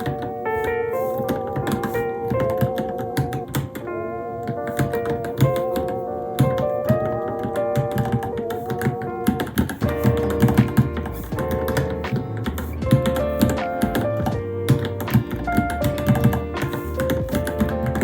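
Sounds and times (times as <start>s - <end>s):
background music with held notes: 0.0s - 18.0s.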